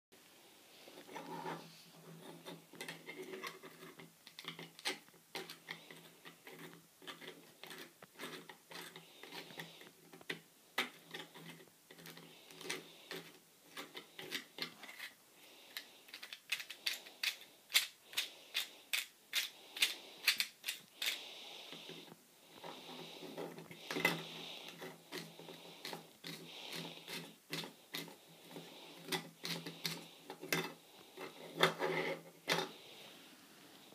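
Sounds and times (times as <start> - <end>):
plastic parts clicking and clacking: 2.1 - 21.2, 21.8 - 32.8.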